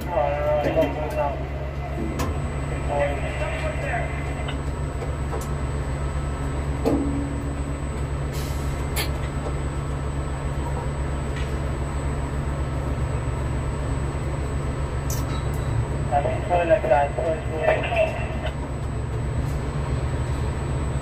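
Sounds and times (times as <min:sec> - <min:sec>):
low machinery drone: 0:00.0 - 0:21.0.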